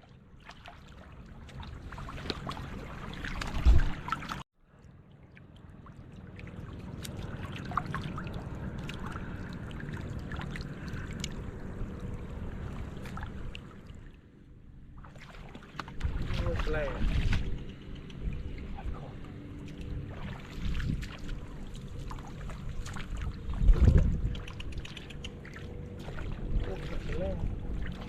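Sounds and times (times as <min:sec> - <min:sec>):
shallow water sloshing: 0:00.0 - 0:28.0.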